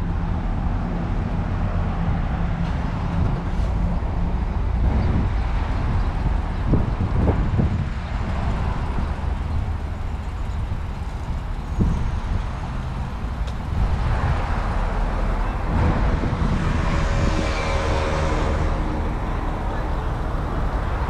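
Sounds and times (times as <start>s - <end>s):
motor vehicles rumbling: 0.0s - 21.0s.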